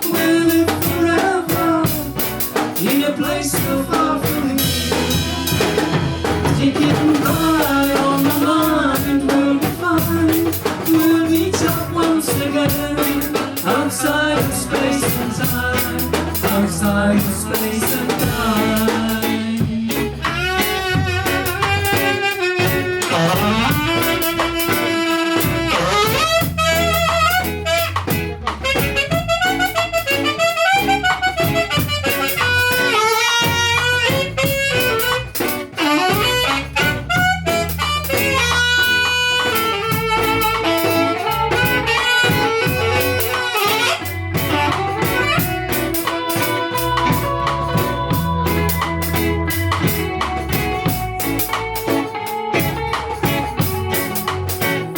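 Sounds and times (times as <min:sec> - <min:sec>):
live band playing reggae: 0:00.0 - 0:54.9.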